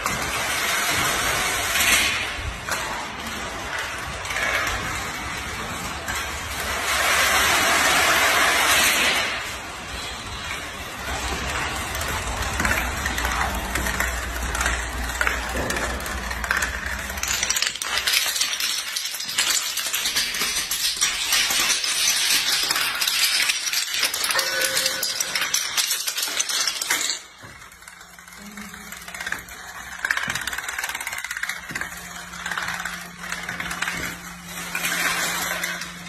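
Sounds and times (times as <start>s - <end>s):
dominoes clattering: 0.0s - 36.0s
dominoes tumbling down stairs: 0.0s - 36.0s.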